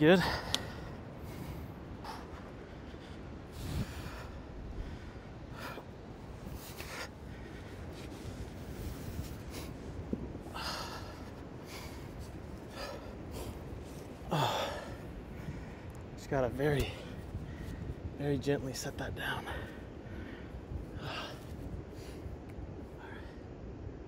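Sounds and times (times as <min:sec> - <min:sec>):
low background rumble: 0:00.0 - 0:24.0
man breathing hard: 0:00.1 - 0:16.2, 0:16.8 - 0:18.2, 0:19.4 - 0:23.7.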